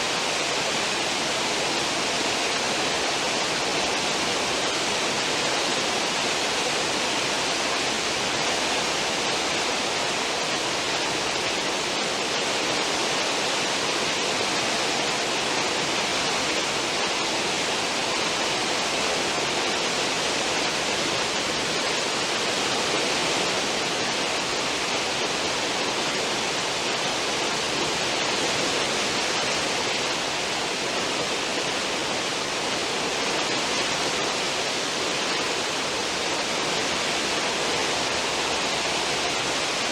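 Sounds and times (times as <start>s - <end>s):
churning sea water rushing: 0.0s - 39.9s.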